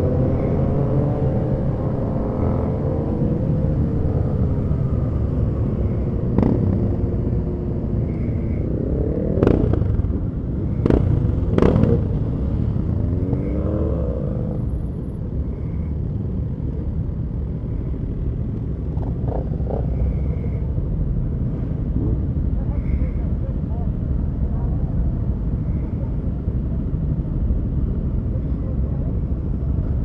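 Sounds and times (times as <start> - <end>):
motorcycle engines revving: 0.0 - 30.0
motorcycle engines rumbling: 0.0 - 30.0.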